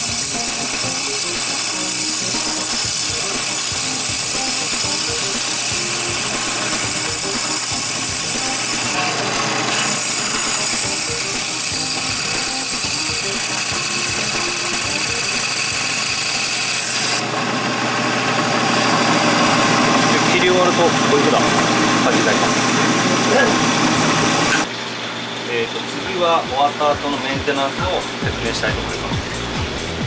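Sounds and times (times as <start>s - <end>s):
band saw high whine: 0.0s - 30.0s.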